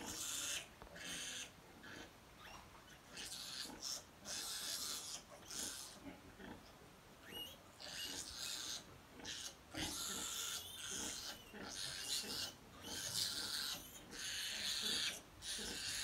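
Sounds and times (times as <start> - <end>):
piglets squealing: 0.0 - 6.1, 7.2 - 16.0.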